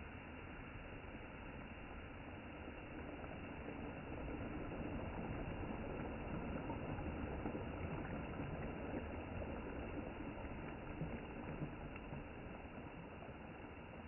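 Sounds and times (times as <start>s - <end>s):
waves lapping on pebbles: 2.4s - 14.0s.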